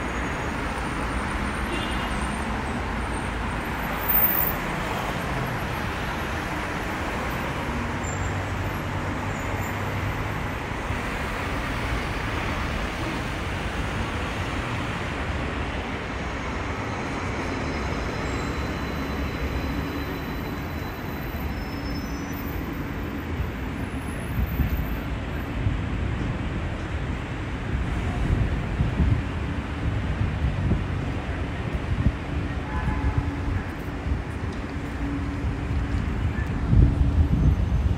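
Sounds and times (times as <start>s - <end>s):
hum of passing traffic: 0.0s - 37.9s.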